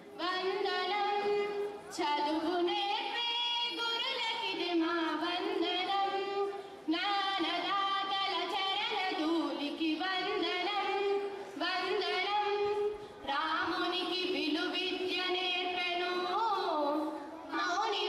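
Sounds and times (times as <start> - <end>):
girls singing into a microphone: 0.0 - 18.0.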